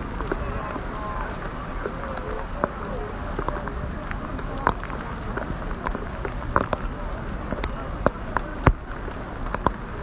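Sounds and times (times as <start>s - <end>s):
crowd walking and talking: 0.0s - 10.0s
rain: 0.0s - 10.0s.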